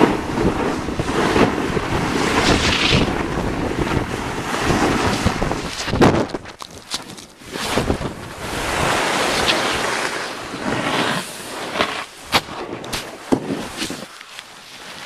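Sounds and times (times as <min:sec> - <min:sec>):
snowboard scraping across snow: 0:00.0 - 0:06.2, 0:07.4 - 0:15.0
wind on microphone: 0:00.0 - 0:14.1.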